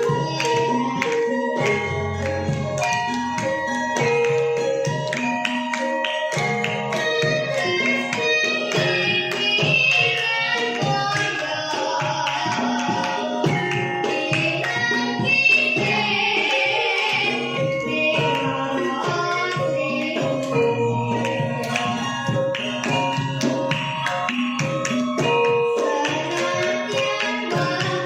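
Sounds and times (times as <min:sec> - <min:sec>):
pitched instruments melody: 0:00.0 - 0:28.0.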